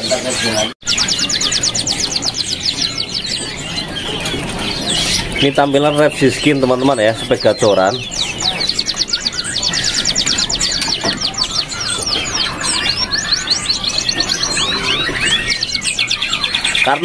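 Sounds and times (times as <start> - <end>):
bird singing trills: 0.0 - 17.0.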